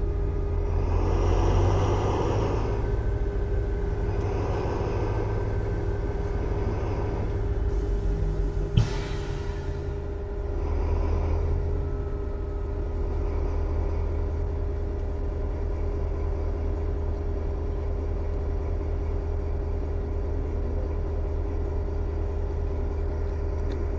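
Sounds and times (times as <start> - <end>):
diesel locomotive idling: 0.0 - 23.9.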